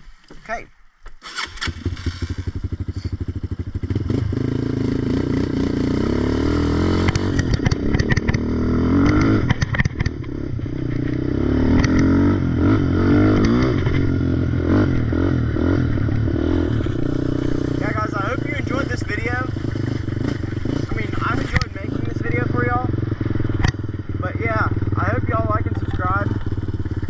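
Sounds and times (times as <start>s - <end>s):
atv engine revving: 1.2s - 27.0s.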